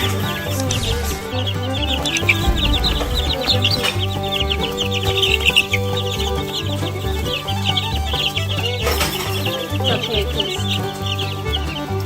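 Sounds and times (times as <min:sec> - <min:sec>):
background music with bass line: 0:00.0 - 0:12.0
chicks peeping: 0:00.2 - 0:11.6.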